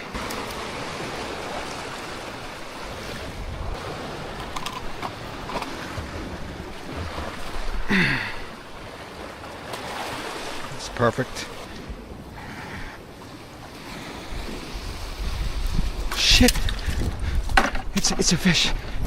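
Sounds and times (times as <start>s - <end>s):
wind on microphone: 0.0s - 9.3s, 11.6s - 19.0s
ocean surf: 0.0s - 19.0s.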